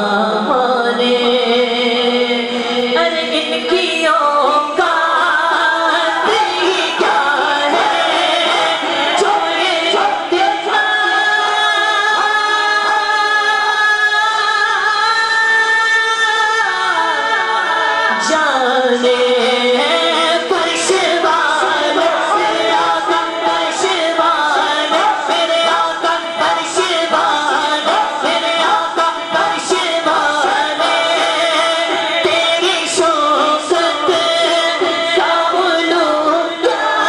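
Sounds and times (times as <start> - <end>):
man singing into a microphone: 0.0 - 37.0.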